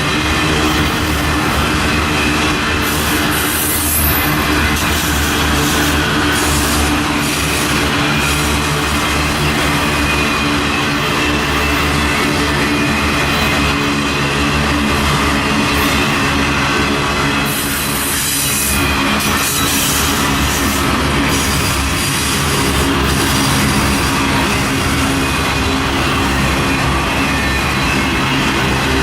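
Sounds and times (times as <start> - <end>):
diesel locomotive engines running: 0.0 - 29.0
steel wheels hissing on rails: 0.0 - 29.0.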